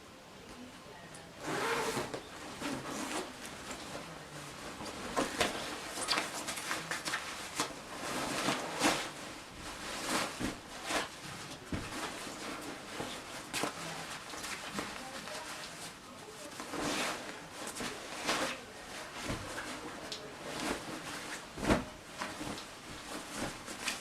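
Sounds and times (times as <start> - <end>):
objects rustling: 1.4 - 24.0.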